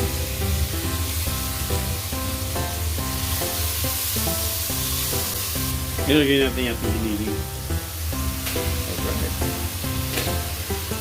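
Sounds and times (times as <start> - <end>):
background music: 0.0 - 11.0
food sizzling in a pan: 0.0 - 11.0.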